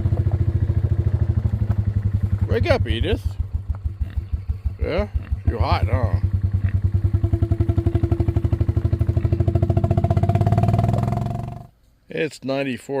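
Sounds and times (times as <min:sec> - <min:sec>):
small engine throbbing: 0:00.0 - 0:11.7.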